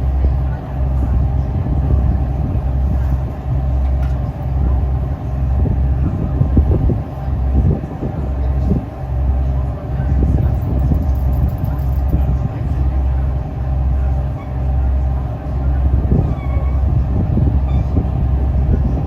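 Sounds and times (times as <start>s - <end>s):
boat diesel engine rumbling: 0.0s - 19.0s.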